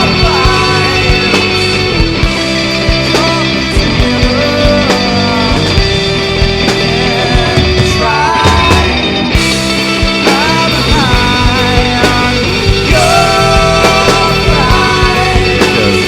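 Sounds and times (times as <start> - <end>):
person singing: 0.0 - 2.2, 2.9 - 9.2, 10.1 - 16.0
rock band playing live: 0.0 - 16.0.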